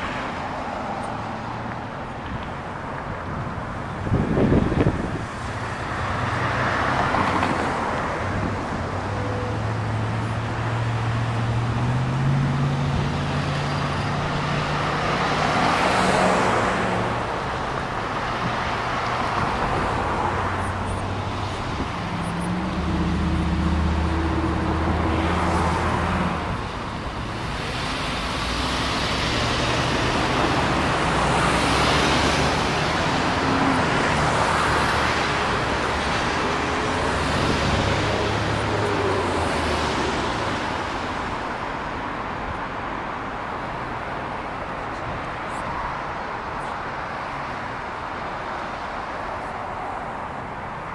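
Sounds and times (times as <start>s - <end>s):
cars passing: 0.0s - 50.9s.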